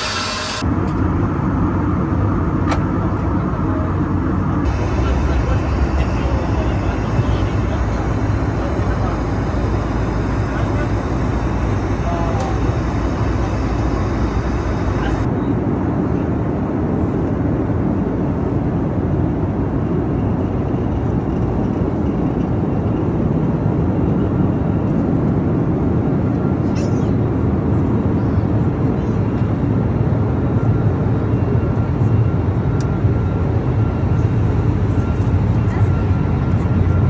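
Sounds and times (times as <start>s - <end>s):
airplane cabin engine and airflow noise: 0.0s - 37.0s.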